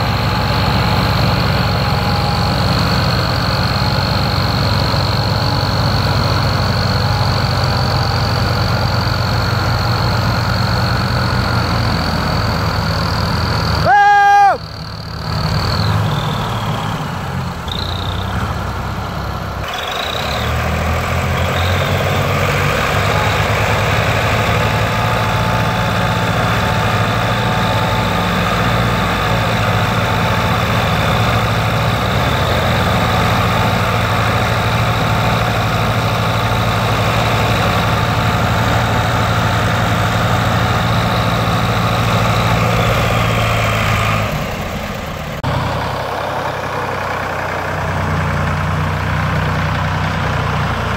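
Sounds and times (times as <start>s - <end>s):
diesel tractor engines under load: 0.0s - 50.9s.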